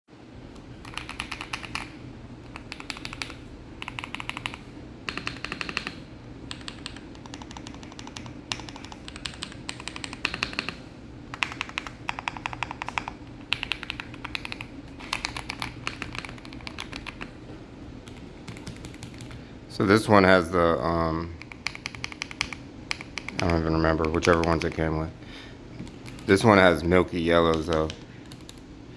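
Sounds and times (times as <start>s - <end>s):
mechanical keyboard typing: 0.6s - 17.3s, 18.1s - 19.4s, 21.4s - 24.9s, 25.8s - 26.4s, 27.5s - 28.6s.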